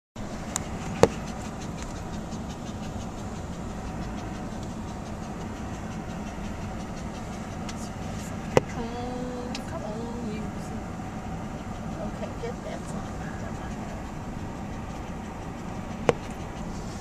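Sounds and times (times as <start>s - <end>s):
car road noise rumble: 0.2s - 17.0s.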